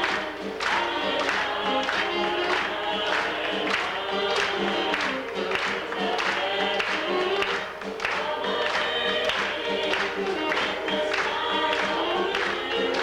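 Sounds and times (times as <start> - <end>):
vocal group singing gospel: 0.0 - 13.0.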